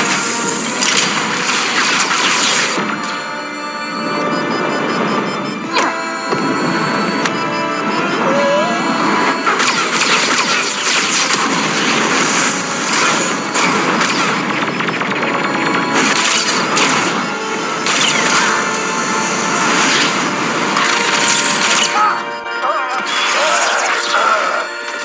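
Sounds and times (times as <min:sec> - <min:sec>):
dramatic orchestral film score: 0:00.0 - 0:25.0.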